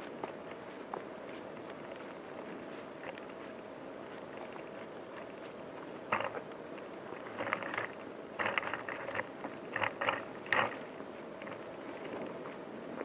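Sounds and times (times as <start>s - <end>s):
crackling through dry undergrowth: 0.0s - 13.0s
steady hiss: 0.0s - 13.0s.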